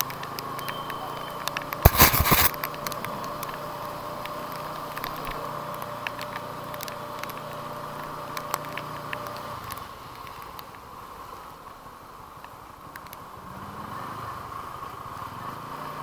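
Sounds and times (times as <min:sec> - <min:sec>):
raindrops ticking on camera: 0:00.0 - 0:13.4.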